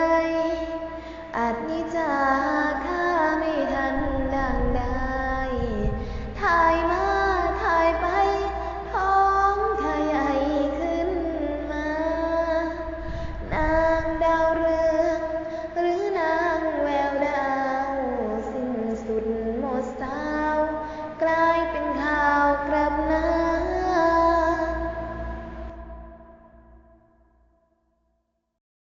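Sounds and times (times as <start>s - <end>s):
woman singing: 0.0s - 26.3s.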